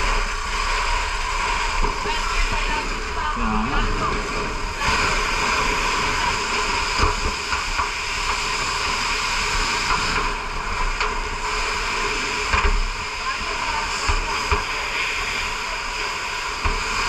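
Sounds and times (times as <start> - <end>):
fire hose spraying water: 0.0 - 17.0.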